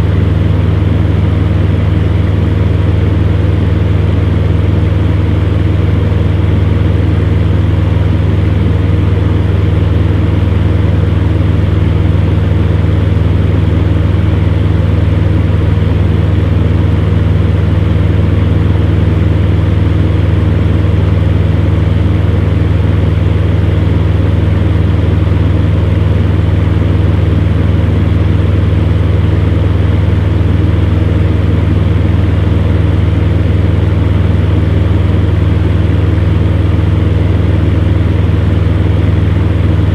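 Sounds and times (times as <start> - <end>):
fan heater motor hum: 0.0 - 39.9.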